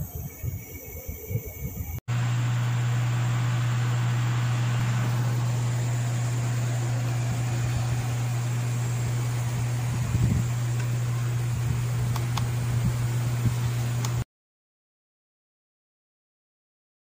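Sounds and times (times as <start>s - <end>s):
small fan humming: 0.0s - 14.2s.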